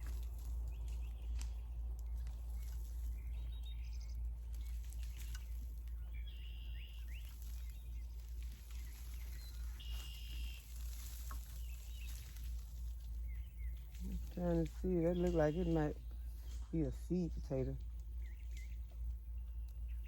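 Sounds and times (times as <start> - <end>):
hands scraping soil and cardboard: 0.0 - 17.4
birds chirping: 0.0 - 20.0
low wind rumble on microphone: 0.0 - 20.0.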